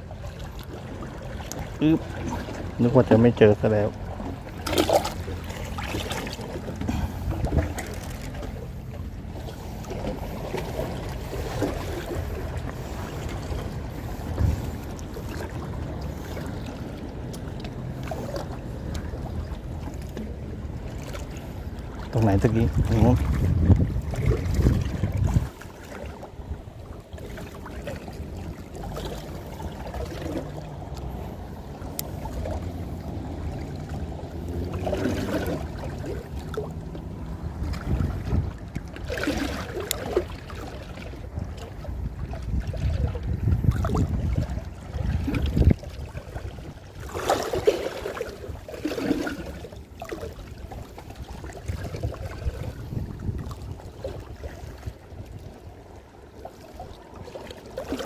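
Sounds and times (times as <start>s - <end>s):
sea water sloshing: 0.0s - 58.0s
wind rumbling on microphone: 0.0s - 58.0s.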